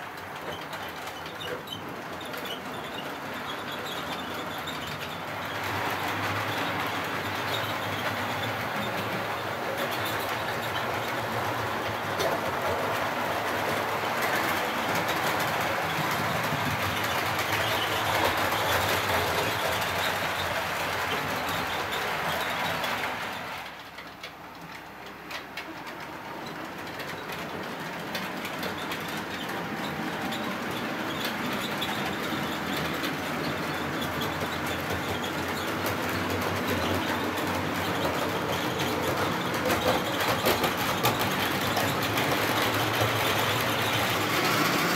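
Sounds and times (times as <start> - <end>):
model train wheels rattling on rails: 0.0 - 44.9.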